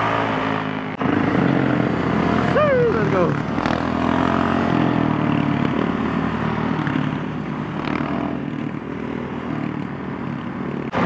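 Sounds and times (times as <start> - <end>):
off-road vehicle engines buzzing: 0.0 - 11.0.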